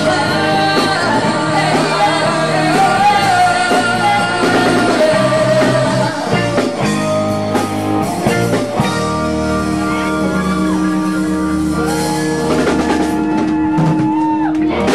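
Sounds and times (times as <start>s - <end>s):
drums: 0.0s - 14.9s
electric guitar chords: 0.0s - 14.9s.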